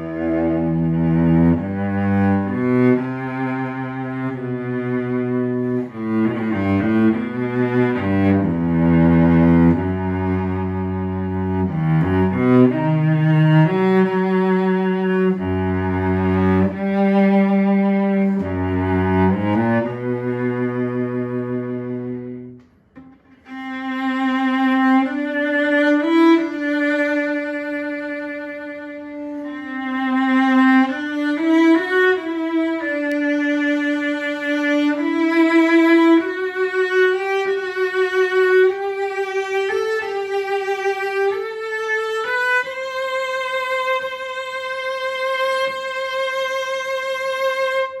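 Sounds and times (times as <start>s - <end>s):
bowed cello melody: 0.0s - 48.0s.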